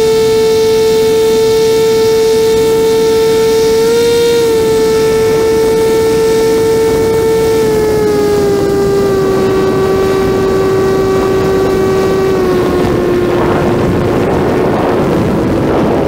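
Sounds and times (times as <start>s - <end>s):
gyroplane engine and propeller droning: 0.0s - 16.0s
wind rushing: 2.5s - 16.0s.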